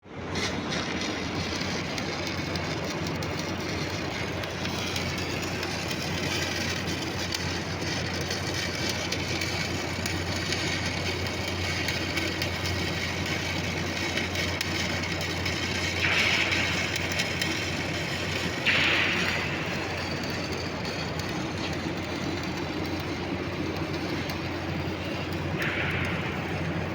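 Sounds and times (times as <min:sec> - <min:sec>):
welding arc crackling: 0:00.1 - 0:26.9.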